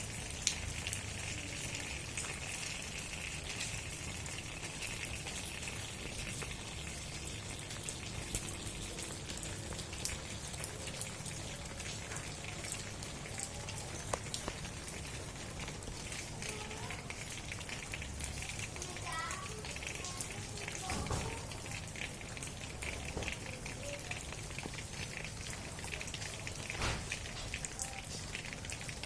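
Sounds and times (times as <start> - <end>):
rain on a tent umbrella: 0.0 - 29.0
raindrops tapping: 0.0 - 29.0.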